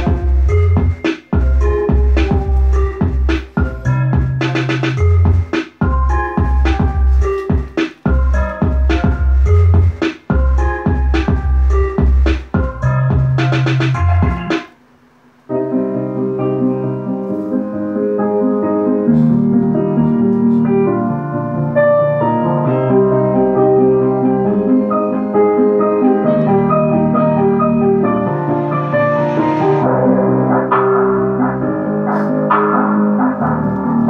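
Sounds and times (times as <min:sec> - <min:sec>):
piano music through loudspeaker: 0:00.0 - 0:14.8, 0:15.5 - 0:34.0.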